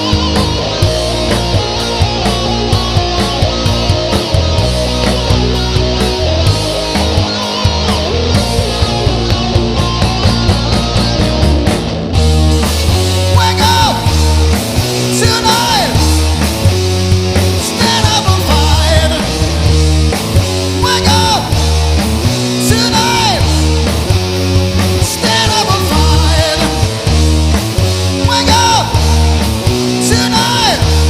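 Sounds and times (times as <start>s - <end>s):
repeating bass pattern: 0.0s - 31.0s
rock band playing live: 0.0s - 31.0s.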